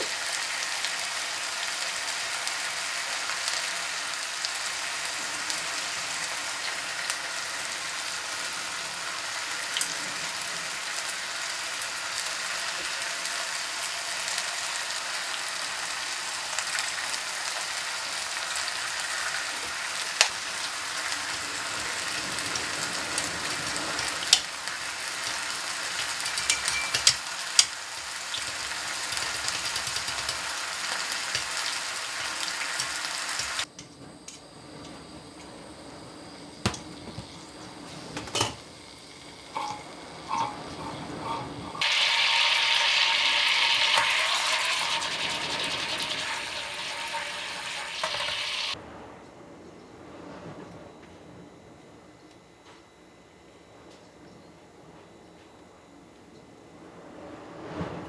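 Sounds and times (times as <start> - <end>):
food sizzling in a pan: 0.0 - 33.7, 34.3 - 48.8.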